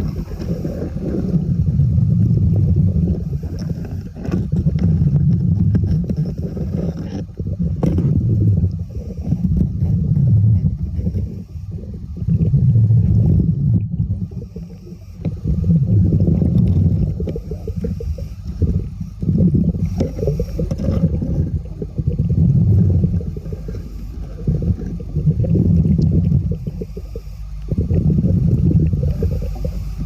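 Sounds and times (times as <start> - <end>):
diver breathing underwater: 0.0 - 30.0.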